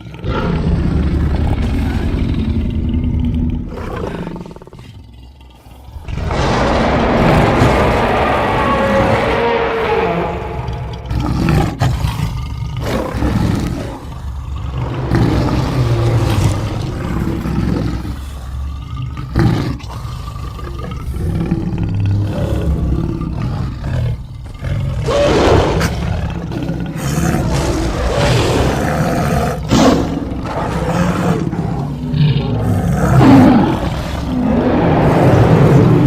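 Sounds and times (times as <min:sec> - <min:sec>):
big cat growling and roaring: 0:00.0 - 0:36.0.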